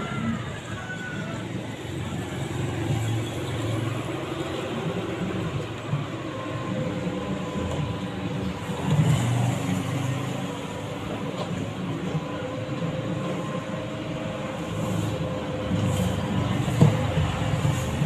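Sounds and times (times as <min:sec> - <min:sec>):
street traffic passing: 0:00.0 - 0:18.0.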